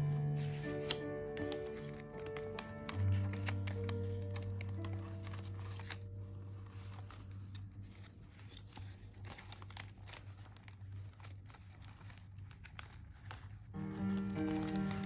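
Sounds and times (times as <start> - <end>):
paper rustling and clicks: 0.0 - 15.0.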